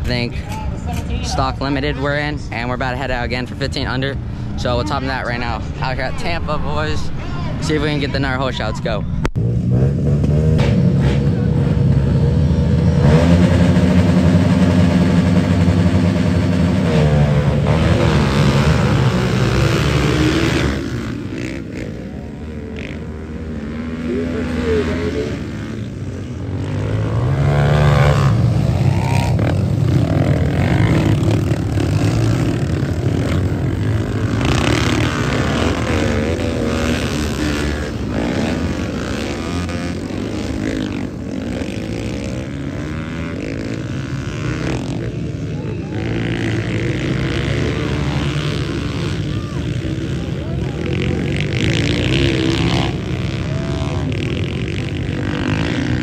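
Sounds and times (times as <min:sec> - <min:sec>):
pit bike engines revving: 0:00.0 - 0:56.0.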